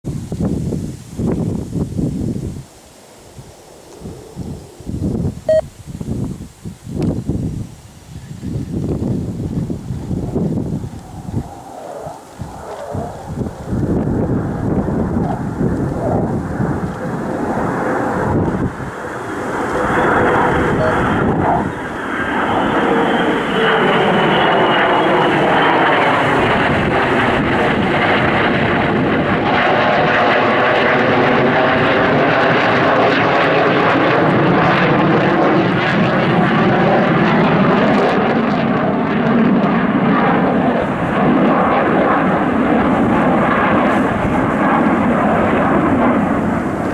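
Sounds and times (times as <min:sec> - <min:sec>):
high jet whine falling in pitch: 0:00.1 - 0:46.9
jet roar: 0:00.1 - 0:46.9.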